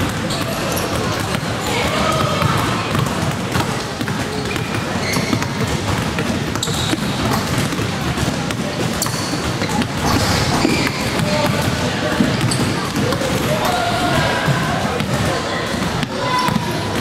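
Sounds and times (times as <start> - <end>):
basketballs bouncing on hardwood floor: 0.0 - 17.0
people chattering: 0.0 - 17.0.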